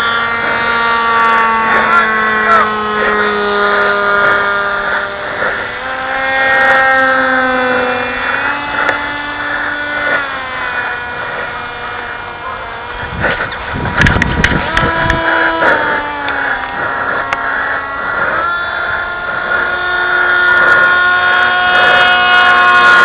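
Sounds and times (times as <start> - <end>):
model airplane motors whining: 0.0 - 23.0
rough rushing noise: 0.0 - 23.0.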